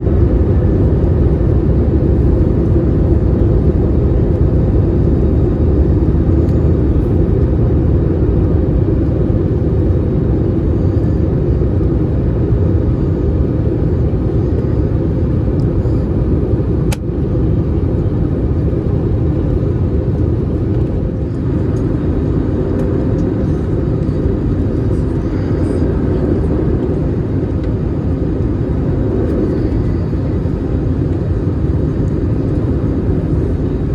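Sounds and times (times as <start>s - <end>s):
airliner cabin roar: 0.0s - 33.9s.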